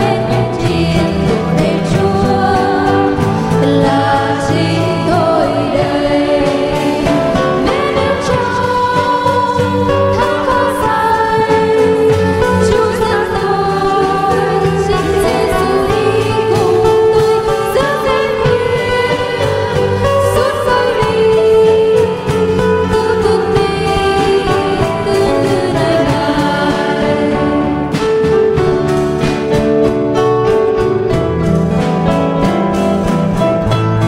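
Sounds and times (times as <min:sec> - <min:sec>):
voices singing a hymn: 0:00.0 - 0:29.0
instrumental accompaniment: 0:00.0 - 0:34.0.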